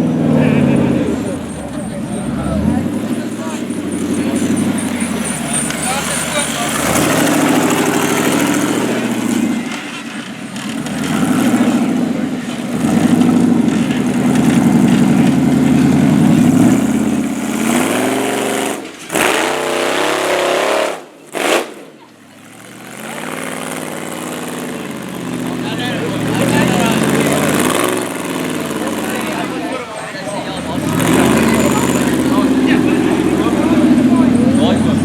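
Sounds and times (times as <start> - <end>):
off-road vehicle engine revving: 0.0 - 35.0.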